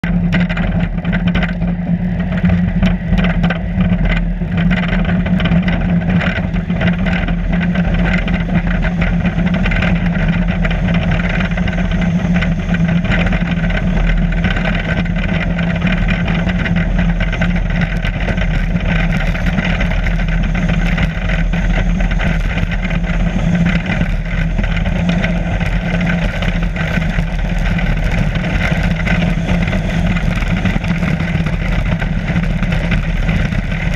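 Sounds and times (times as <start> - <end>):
sled knocking and rattling: 0.0 - 33.9
sled runners rumbling on ice: 0.0 - 33.9.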